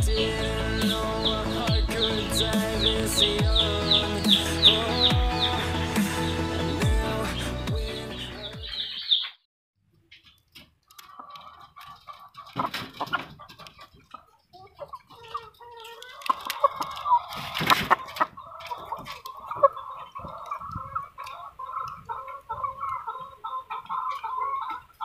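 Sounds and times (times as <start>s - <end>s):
hens clucking: 0.0s - 9.4s, 10.2s - 25.0s.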